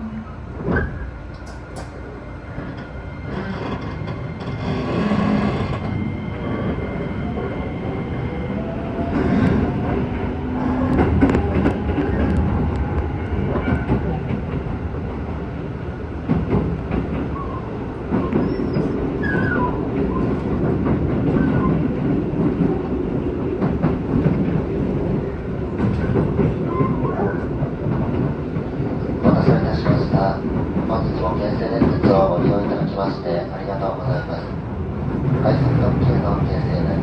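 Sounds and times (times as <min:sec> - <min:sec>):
electric train rumble: 0:00.0 - 0:37.0.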